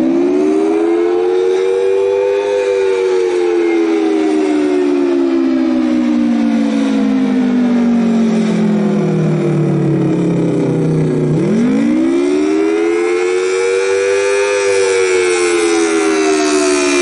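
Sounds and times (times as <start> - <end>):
outdoor warning siren: 0.0 - 17.0.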